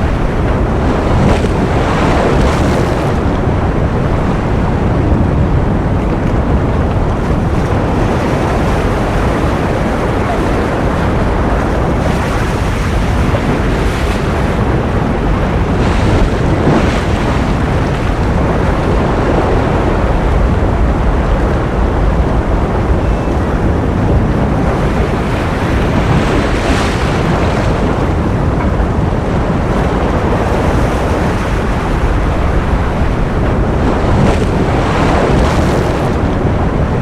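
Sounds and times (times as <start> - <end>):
ocean surf rushing: 0.0 - 37.0
wave washes: 0.0 - 37.0.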